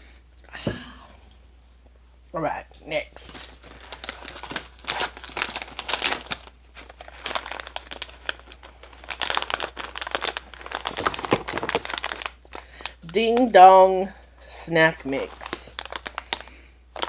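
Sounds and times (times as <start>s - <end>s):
snack packaging crinkling: 3.2s - 17.0s.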